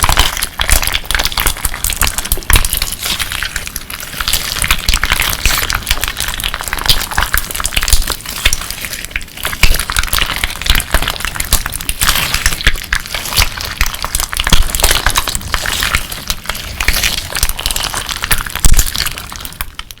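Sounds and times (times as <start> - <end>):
crunchy slime squeezed by hand: 0.0 - 20.0.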